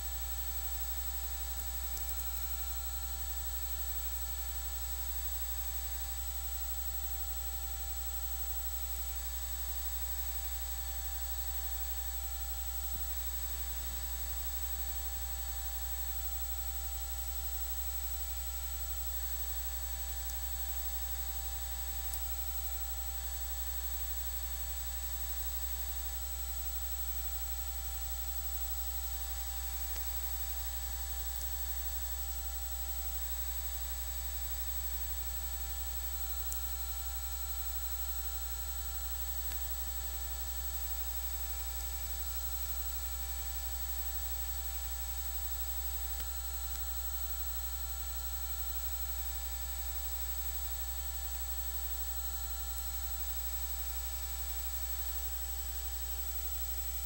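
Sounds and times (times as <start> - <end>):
electrical hum and hiss: 0.0 - 57.0.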